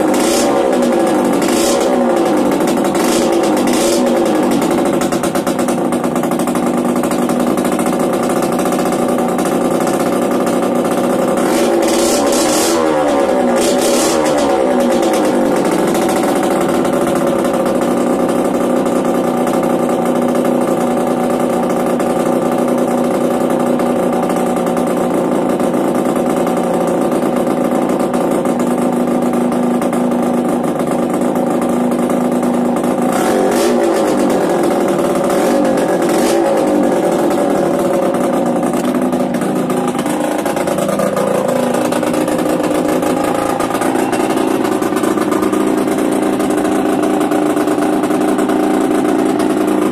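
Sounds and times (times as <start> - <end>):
two-stroke motorcycle engine running: 0.0 - 49.9.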